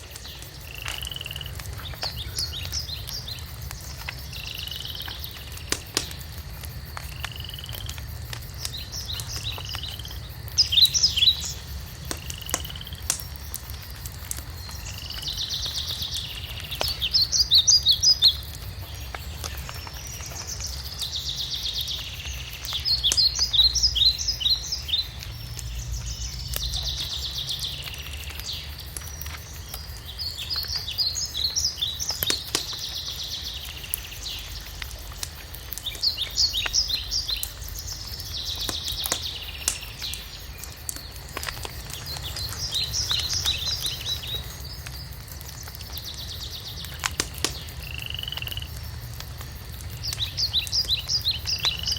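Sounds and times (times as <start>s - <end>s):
songbird singing: 0.0s - 48.9s, 49.7s - 51.9s
wood crackling in fireplace: 0.0s - 51.9s.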